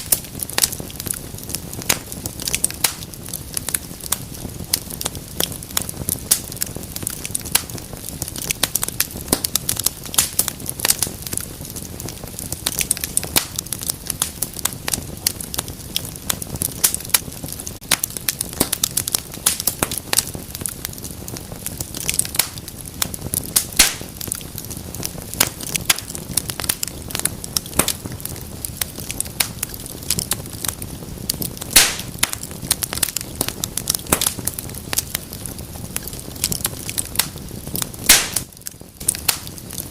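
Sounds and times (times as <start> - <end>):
fire crackling: 0.0 - 39.9
fire pops: 0.0 - 39.9
hiss of fire flames: 0.0 - 39.9.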